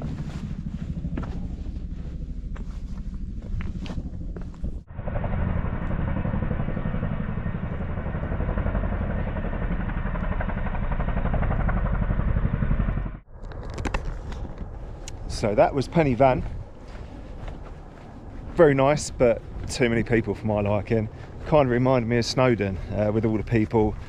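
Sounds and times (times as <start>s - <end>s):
helicopter rotor chop: 0.0s - 24.0s.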